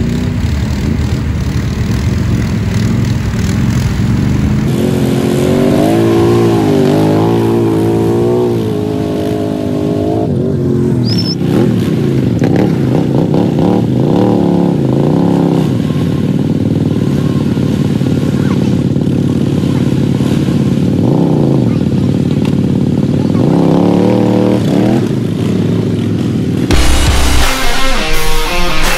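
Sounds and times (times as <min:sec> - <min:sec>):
atv engines revving: 0:00.0 - 0:28.9.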